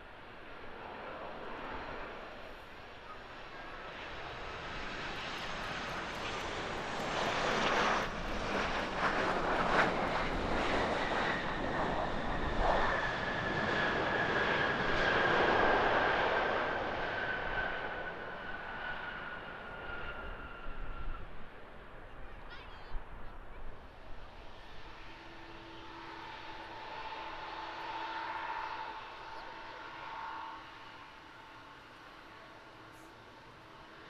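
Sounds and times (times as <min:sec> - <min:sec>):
high jet engine whine: 0:00.0 - 0:34.0
jet airliner landing: 0:00.0 - 0:34.0.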